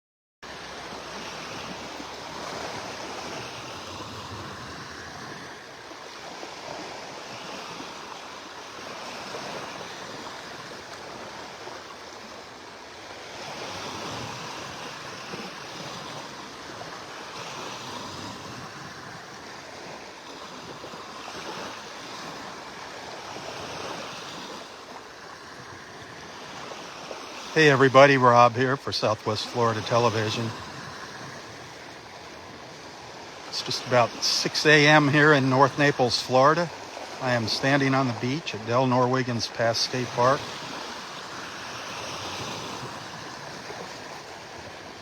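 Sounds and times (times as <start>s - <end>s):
surf washing onto beach: 0.5s - 45.0s.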